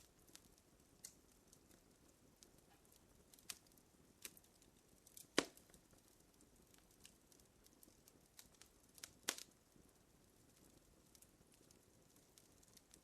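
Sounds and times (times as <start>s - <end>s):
wood fire crackling faintly: 0.0s - 13.0s.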